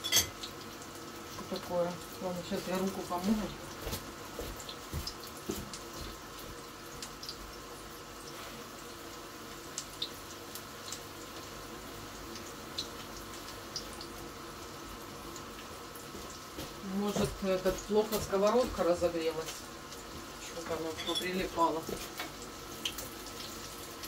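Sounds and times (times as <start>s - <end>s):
meat sizzling in a pan: 0.0s - 24.0s.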